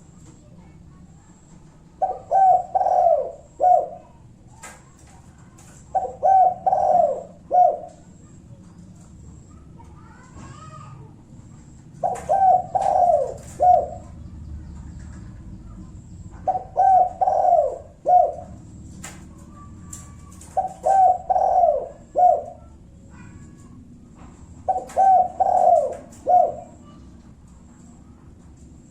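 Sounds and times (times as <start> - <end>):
dove cooing: 0.0 - 28.9.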